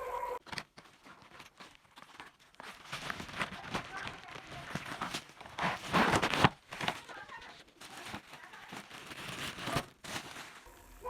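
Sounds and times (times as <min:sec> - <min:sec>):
packaging crinkling and rustling: 0:00.4 - 0:10.7.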